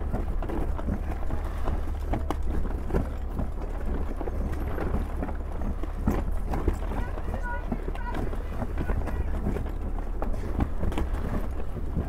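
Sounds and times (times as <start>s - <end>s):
wind buffeting the microphone: 0.0s - 12.0s.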